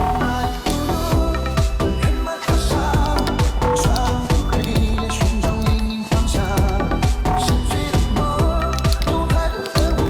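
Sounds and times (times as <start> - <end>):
electronic dance music: 0.0 - 10.0
heavy kick drum: 0.0 - 10.0.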